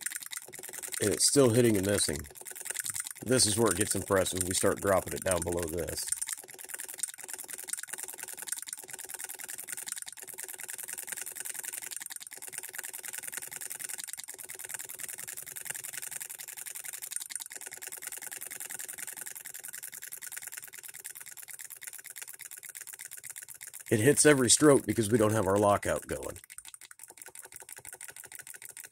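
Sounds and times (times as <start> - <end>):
model engine rapid clicking: 0.0 - 28.9.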